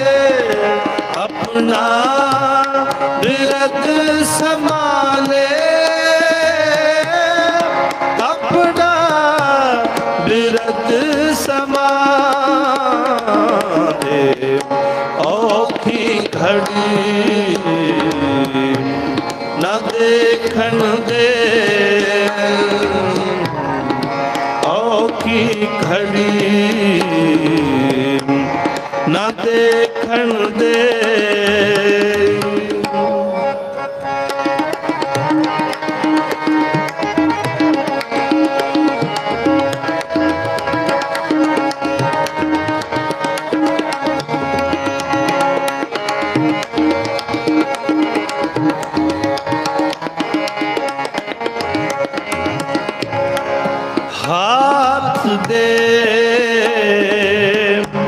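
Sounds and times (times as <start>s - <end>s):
harmonium: 0.0s - 58.0s
tabla rhythm: 0.0s - 58.0s.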